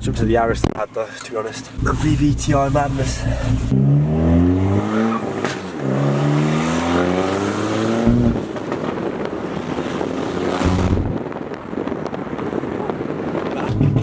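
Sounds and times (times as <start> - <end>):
car engine accelerating: 1.6 - 14.0.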